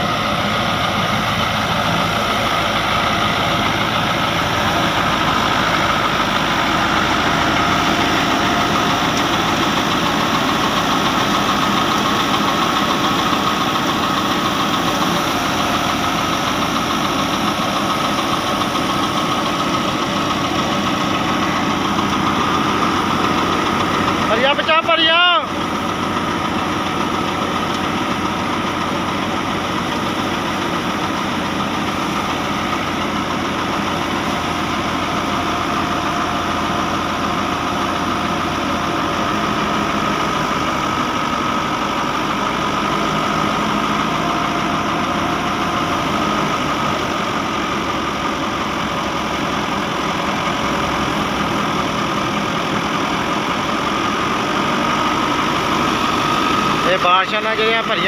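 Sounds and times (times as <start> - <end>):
thresher drum whirring: 0.0 - 58.0
tractor engine drone: 0.0 - 58.0.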